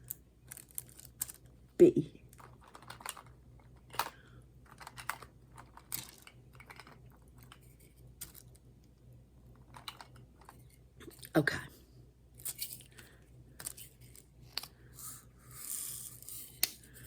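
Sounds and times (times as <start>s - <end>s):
hands handling small pieces: 0.0s - 1.6s, 2.2s - 11.3s, 12.4s - 17.0s.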